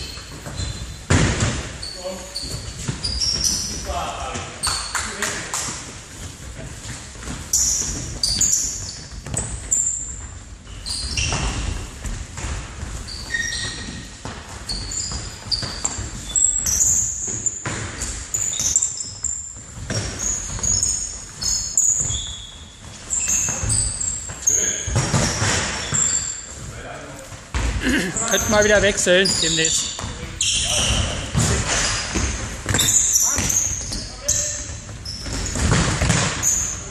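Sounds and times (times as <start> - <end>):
sneakers squeaking on floor: 0.0 - 36.9.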